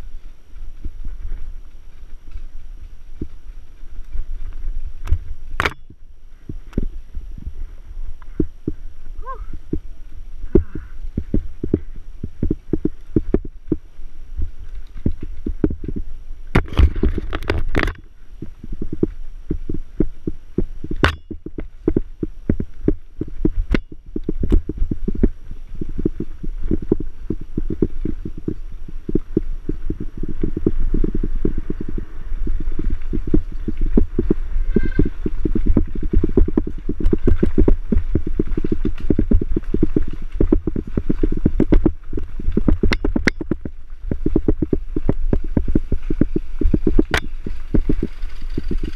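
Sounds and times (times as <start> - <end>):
bike jolting over rough ground: 0.0 - 48.9
bike rattling: 0.0 - 48.9.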